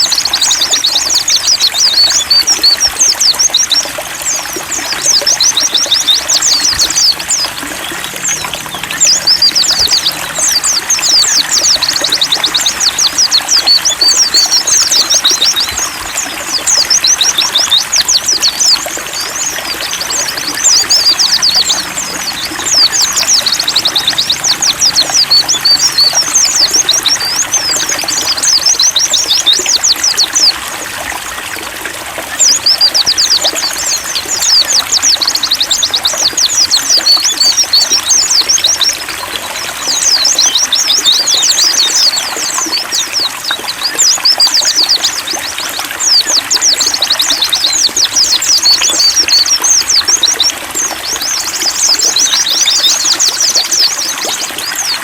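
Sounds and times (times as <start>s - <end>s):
birds twittering: 0.0s - 55.0s
running water trickling: 0.0s - 55.0s.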